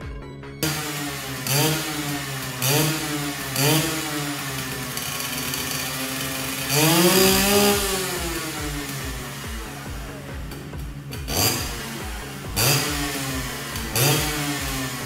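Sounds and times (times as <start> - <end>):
two-stroke engine revving: 0.6 - 15.0.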